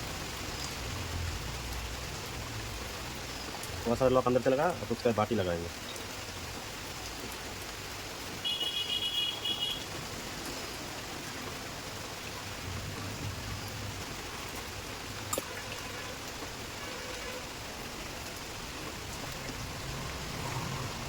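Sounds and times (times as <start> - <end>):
rain hissing: 0.0 - 21.0.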